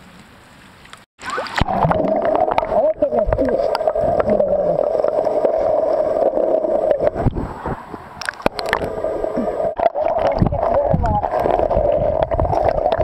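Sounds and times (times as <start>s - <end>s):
underwater gurgling and sloshing: 1.3s - 13.0s.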